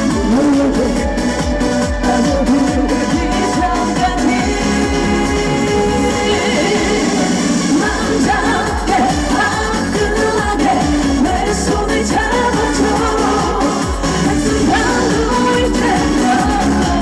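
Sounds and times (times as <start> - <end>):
amplified backing track: 0.0 - 17.0
woman singing: 0.0 - 17.0.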